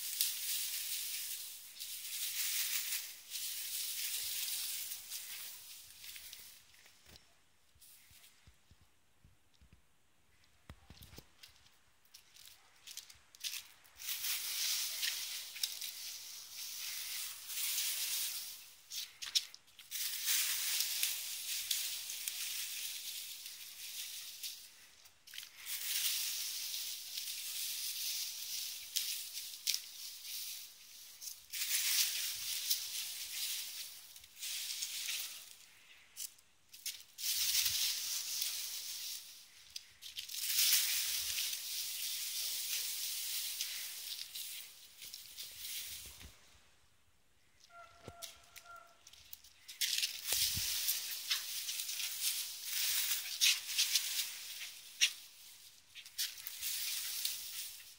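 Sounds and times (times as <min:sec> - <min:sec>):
hedge leaves rustling: 0:00.0 - 0:08.6, 0:10.3 - 0:57.9.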